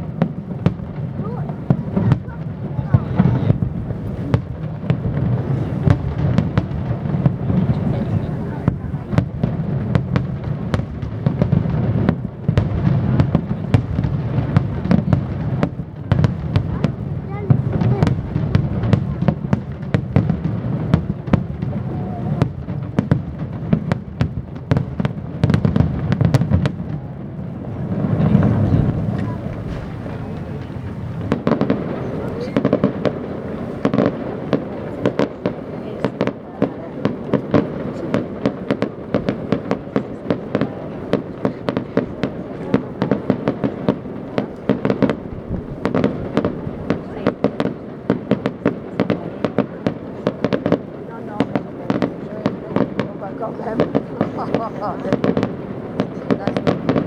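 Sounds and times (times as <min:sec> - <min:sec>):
fireworks bangs and cracks: 0:00.0 - 0:57.0.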